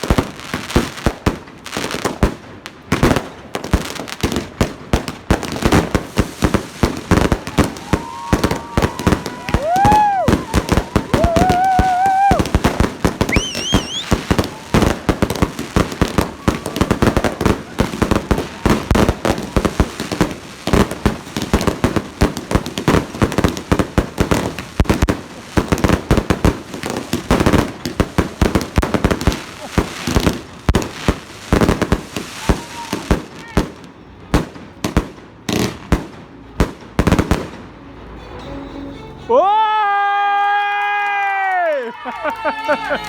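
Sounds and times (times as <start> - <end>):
whistling fireworks: 0.0 - 37.6
fireworks bangs and crackles: 0.0 - 37.8.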